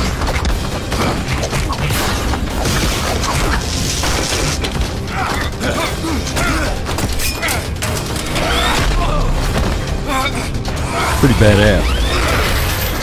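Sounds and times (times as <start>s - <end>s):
action film music: 0.0s - 13.0s.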